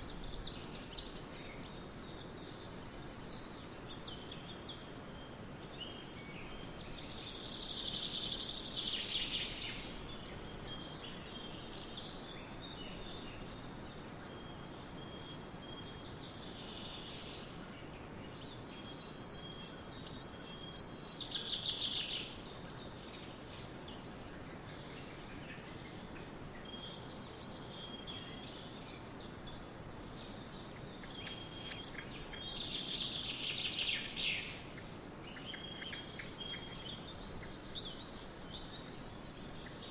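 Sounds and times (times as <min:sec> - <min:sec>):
songbirds singing: 0:00.0 - 0:39.9
steady background hiss: 0:00.0 - 0:39.9
thin whistled bird notes: 0:00.0 - 0:39.9.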